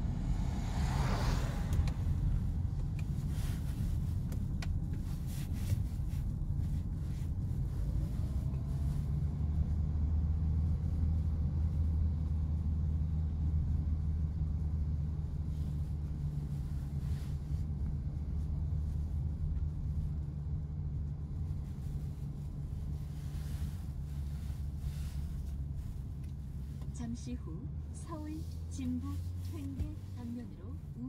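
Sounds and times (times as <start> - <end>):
road and drivetrain drone: 0.0 - 31.0.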